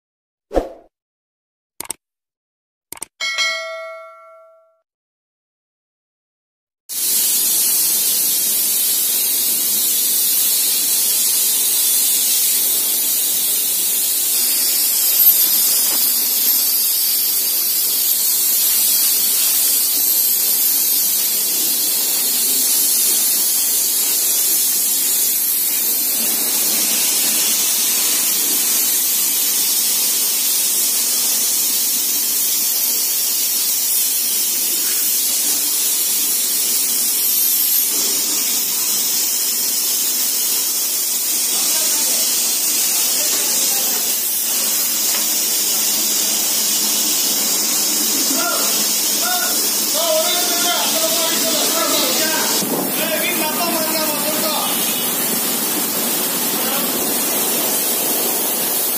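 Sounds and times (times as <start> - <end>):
pressure washer jet hissing: 6.9 - 58.9.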